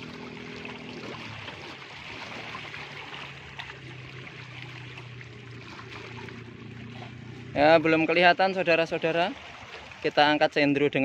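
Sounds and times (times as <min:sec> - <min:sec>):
boat engine humming: 0:00.0 - 0:11.0
small waves washing against boulders: 0:00.0 - 0:11.0.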